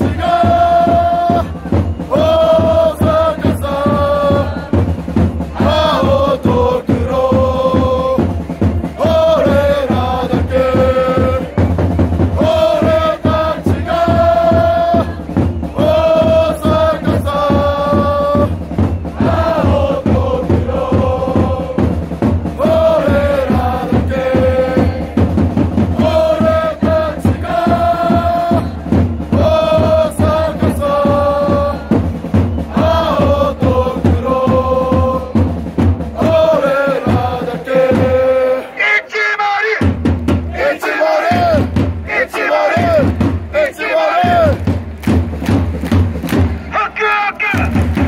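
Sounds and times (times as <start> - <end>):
crowd chanting in unison: 0.0 - 48.0
steady drum beat: 0.0 - 48.0.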